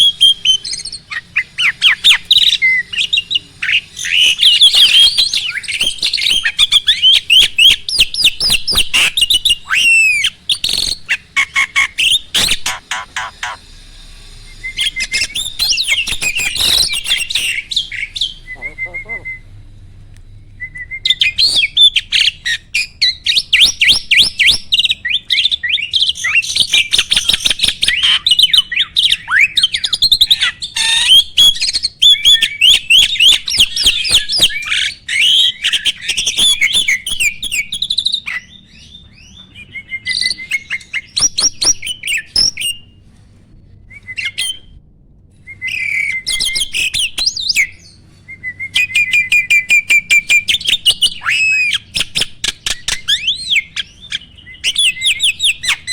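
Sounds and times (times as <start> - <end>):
starling singing: 0.0 - 13.8, 14.4 - 19.6, 20.6 - 42.9, 48.7 - 55.9.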